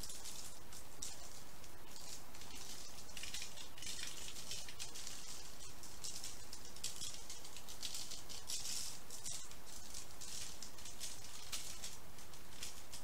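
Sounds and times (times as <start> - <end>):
seasoning rattling in a shaker: 0.0 - 13.0.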